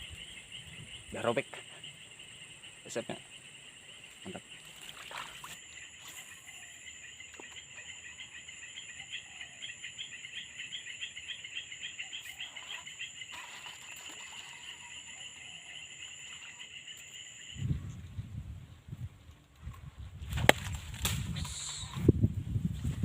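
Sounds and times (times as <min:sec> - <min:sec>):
high-pitched insect whine: 0:00.0 - 0:18.1, 0:21.1 - 0:22.2
insects chirping rapidly: 0:00.0 - 0:18.4, 0:21.2 - 0:22.3.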